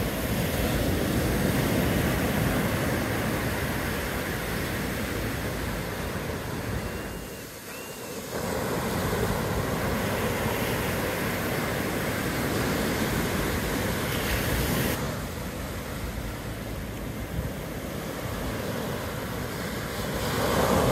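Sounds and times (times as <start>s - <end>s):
ocean waves breaking: 0.0s - 20.9s.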